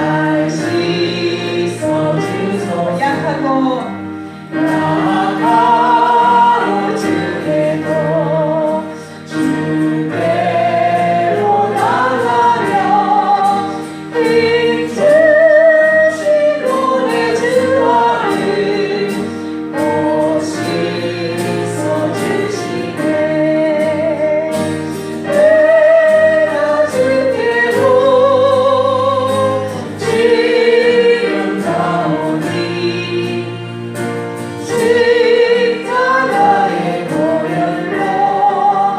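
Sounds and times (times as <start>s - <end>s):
group singing praise song: 0.0s - 3.2s, 4.4s - 38.9s.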